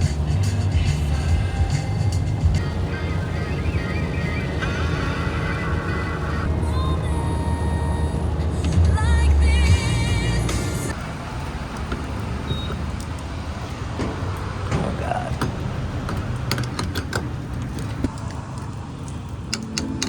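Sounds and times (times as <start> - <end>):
car engine rumble: 0.0 - 20.0
road noise: 0.0 - 20.0.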